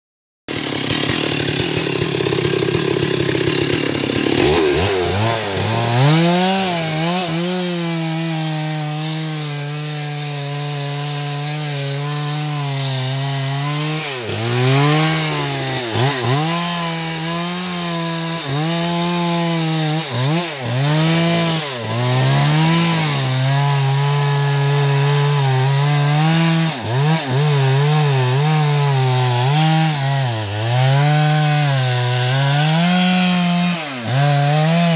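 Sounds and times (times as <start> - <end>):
chainsaw cutting wood: 0.5 - 34.9.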